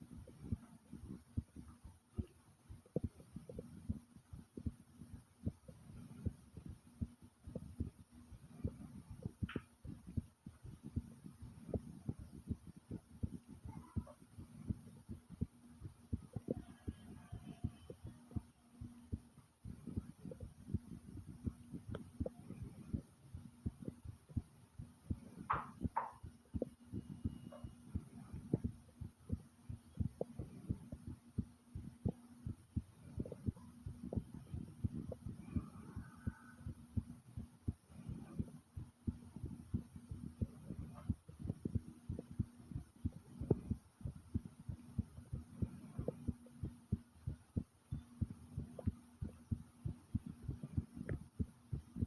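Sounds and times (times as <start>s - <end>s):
fast heartbeat thumps: 0.0s - 52.0s
steady low hum: 0.0s - 52.0s.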